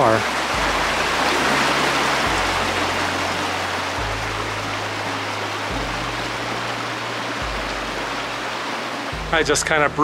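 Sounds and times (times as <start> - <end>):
creek water running over rocks: 0.0 - 10.0
soft background music: 0.0 - 10.0.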